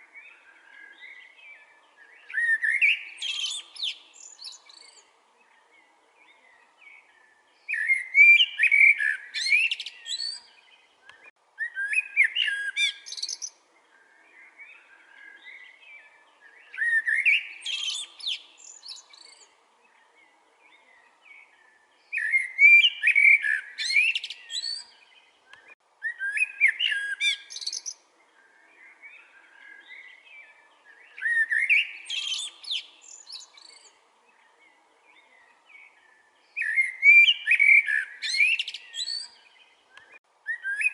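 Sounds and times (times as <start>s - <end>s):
blackbird singing: 0.0s - 40.9s.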